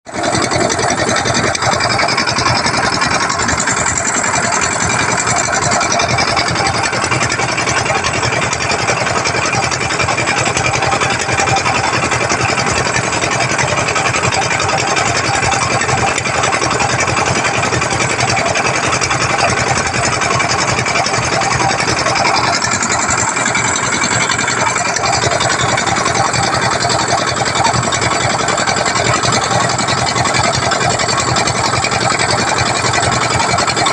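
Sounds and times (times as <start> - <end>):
small boat engine rattling: 0.1 - 33.9.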